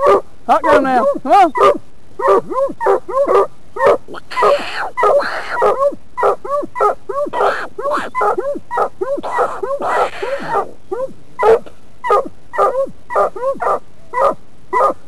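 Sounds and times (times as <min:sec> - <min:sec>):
hound barking: 0:00.0 - 0:15.0.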